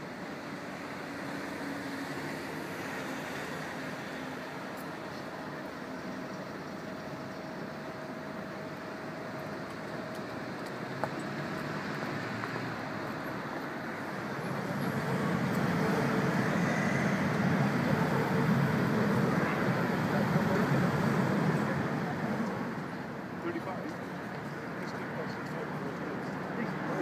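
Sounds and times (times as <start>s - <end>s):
city road traffic: 0.0s - 27.0s.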